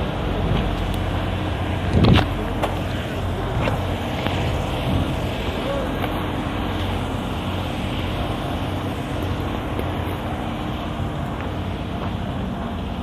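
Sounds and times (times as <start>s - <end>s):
steady low rumble: 0.0s - 13.0s
hiss: 1.6s - 13.0s.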